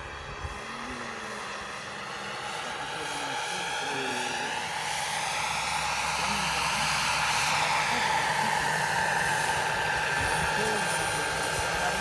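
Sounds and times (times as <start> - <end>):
model helicopter rotor whining: 0.0 - 12.0.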